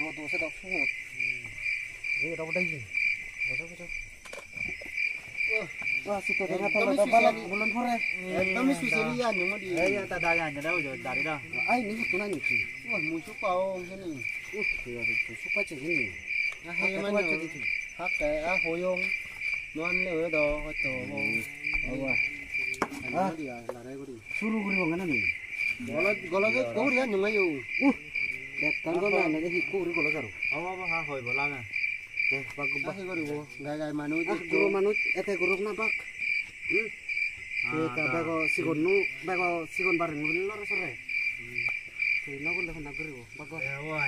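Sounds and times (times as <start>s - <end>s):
crickets chirping: 0.0s - 44.0s.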